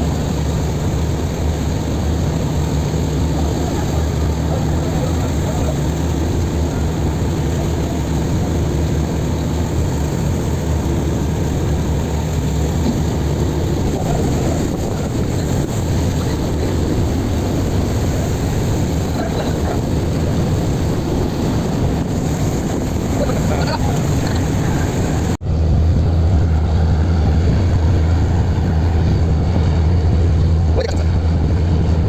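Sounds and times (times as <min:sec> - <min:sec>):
boat engine humming: 0:00.0 - 0:32.0.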